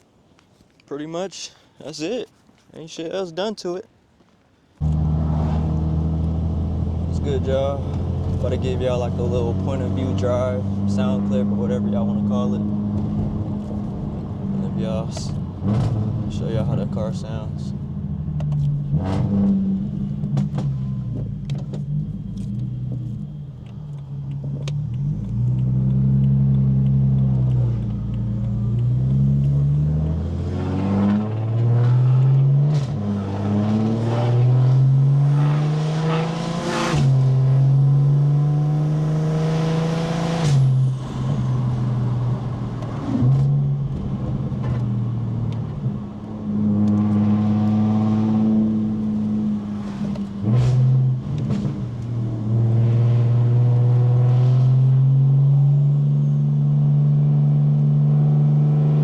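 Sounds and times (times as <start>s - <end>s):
car engine accelerating through gears: 4.8s - 59.0s.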